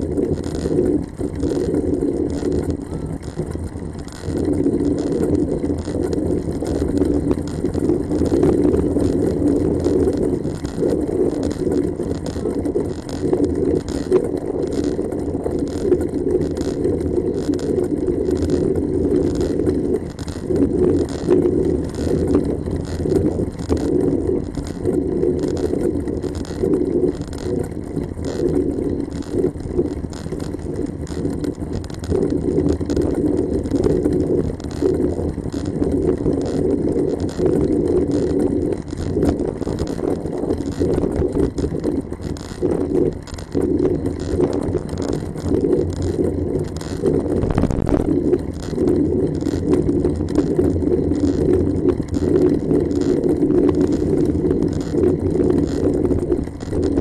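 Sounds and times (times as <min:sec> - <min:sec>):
road rumble: 0:00.0 - 0:57.0
wind buffeting microphone: 0:00.0 - 0:57.0.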